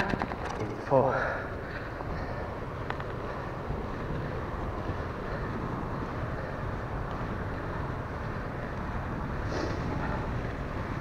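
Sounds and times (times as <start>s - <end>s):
bike tyres rumbling on trail: 0.0s - 11.0s.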